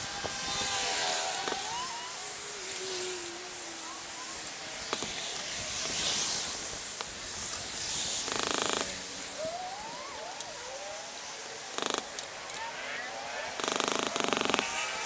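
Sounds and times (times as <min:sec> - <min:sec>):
street noise: 0:00.0 - 0:15.0
wind: 0:00.0 - 0:15.0.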